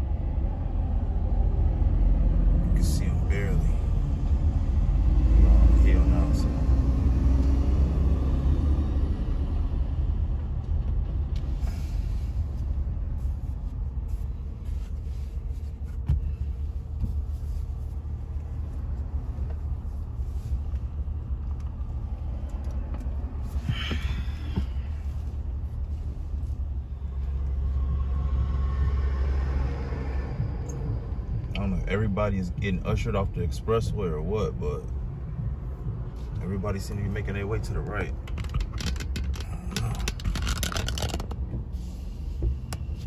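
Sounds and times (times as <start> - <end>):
engine and road noise in cabin: 0.0 - 43.0.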